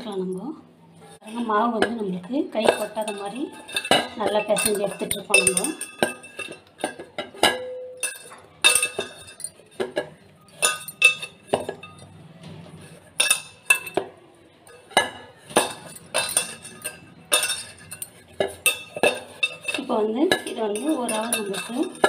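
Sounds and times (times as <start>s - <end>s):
mixing bowl clinking and knocking: 1.1s - 22.0s.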